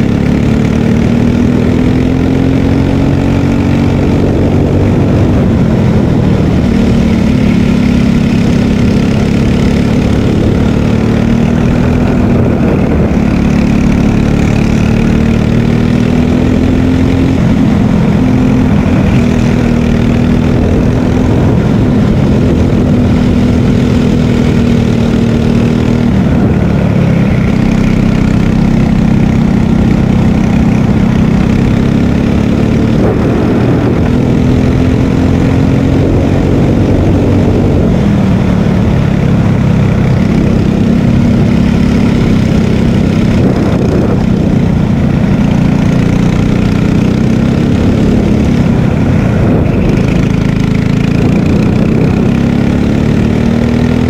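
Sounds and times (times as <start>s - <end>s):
air and tyre noise: 0.0s - 54.0s
kart engine accelerating: 0.0s - 54.0s.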